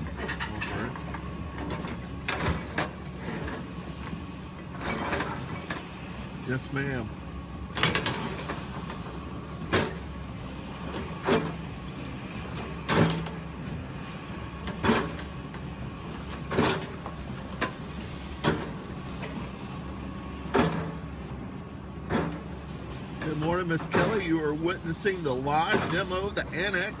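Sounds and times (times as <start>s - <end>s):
excavator engine running: 0.0s - 27.0s.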